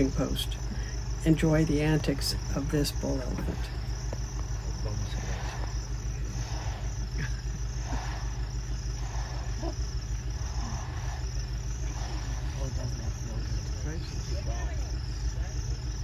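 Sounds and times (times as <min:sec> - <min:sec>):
insects chirping in high trill: 0:00.0 - 0:16.0
low rumble: 0:00.0 - 0:16.0.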